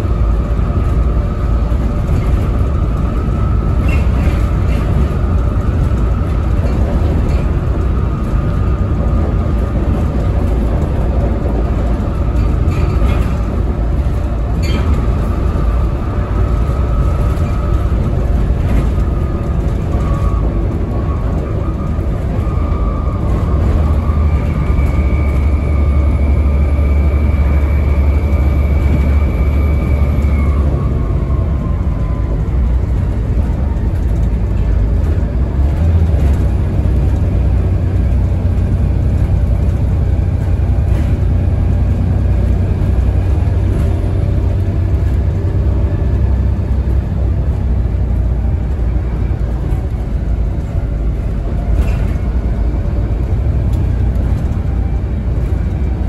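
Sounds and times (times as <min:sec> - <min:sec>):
bus diesel engine rumbling: 0:00.0 - 0:56.0
drivetrain whine: 0:00.0 - 0:56.0.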